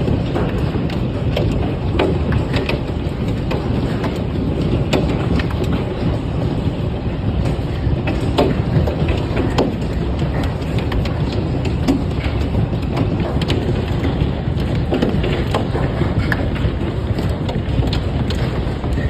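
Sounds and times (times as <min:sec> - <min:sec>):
hail striking hard surfaces: 0:00.0 - 0:19.0
sharp clicks of hailstones: 0:00.0 - 0:19.0.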